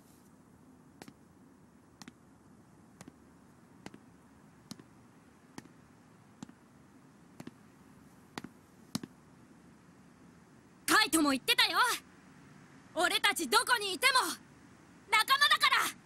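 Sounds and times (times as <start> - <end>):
faint hiss: 0.0 - 16.0.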